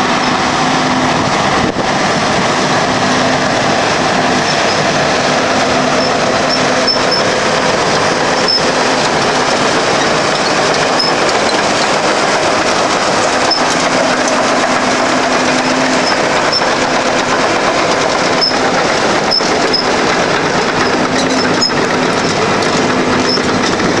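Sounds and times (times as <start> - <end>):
bulldozer running: 0.0 - 24.0
steel tracks clicking and clanking: 0.0 - 24.0.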